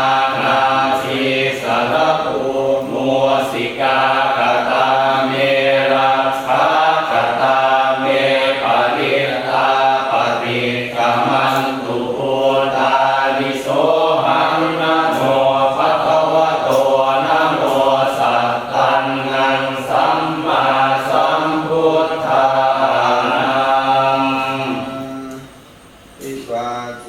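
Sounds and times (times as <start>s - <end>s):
monotone monastic chanting: 0.0s - 25.6s.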